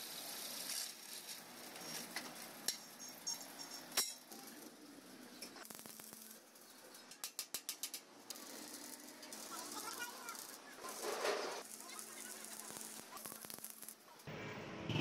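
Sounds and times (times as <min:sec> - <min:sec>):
steel pieces clinking: 0:00.7 - 0:04.4, 0:05.4 - 0:14.2.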